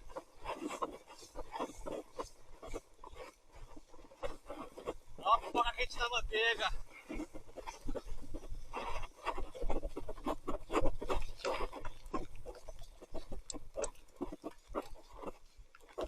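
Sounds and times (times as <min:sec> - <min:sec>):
tyres squelching in mud: 0:00.0 - 0:16.0.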